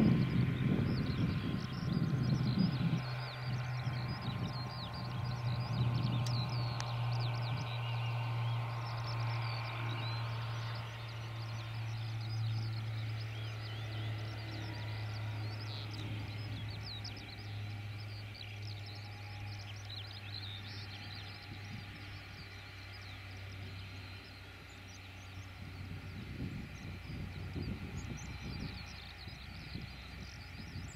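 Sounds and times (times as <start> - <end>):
diesel locomotive engine droning: 0.0 - 30.9
small birds chirping: 0.0 - 30.9.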